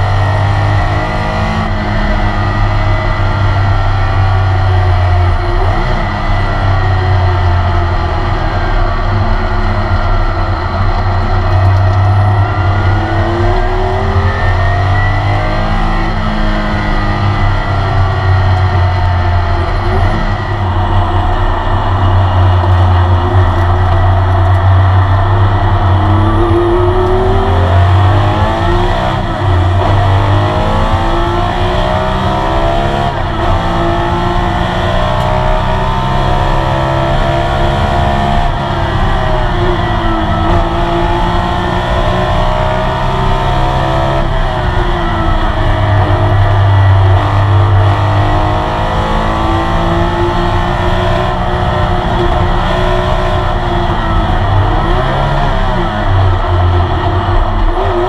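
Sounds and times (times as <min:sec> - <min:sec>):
racing car engine revving: 0:00.0 - 0:58.0
road and wind noise: 0:00.0 - 0:58.0.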